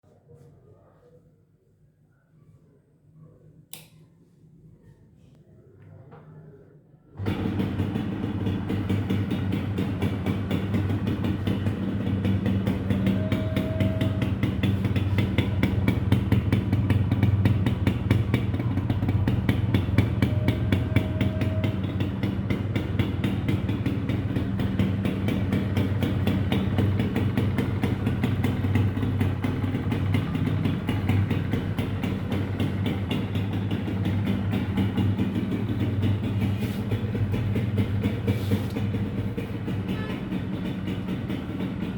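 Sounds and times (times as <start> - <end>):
motorcycle engine idling: 7.2 - 41.9.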